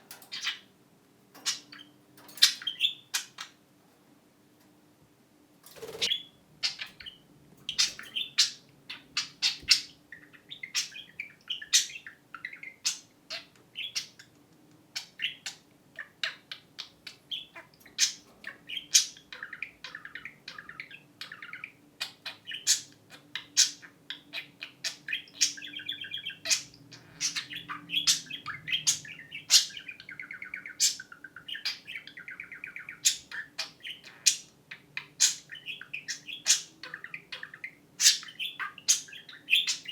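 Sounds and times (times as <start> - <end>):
budgerigars chirping and warbling: 0.0 - 0.7, 1.4 - 3.6, 5.8 - 39.9.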